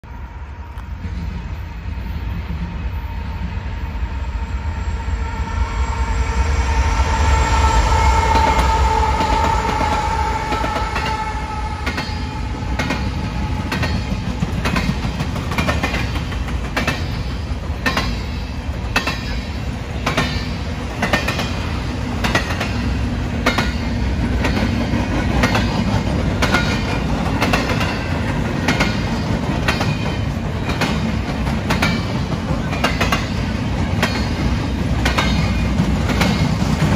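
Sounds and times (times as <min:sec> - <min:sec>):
rail cars rattling: 0:00.0 - 0:36.9
train rumbling: 0:00.0 - 0:36.9
clacking train wheels: 0:00.7 - 0:36.9.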